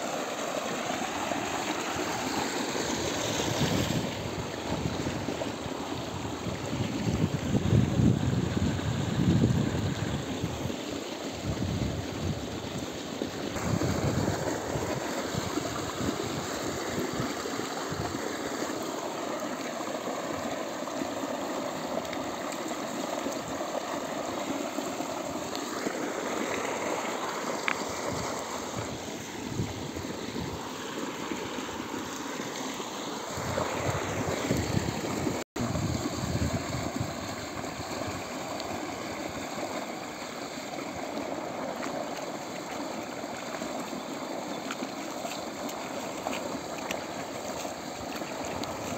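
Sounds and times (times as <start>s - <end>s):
water rushing in a channel: 0.0s - 48.9s.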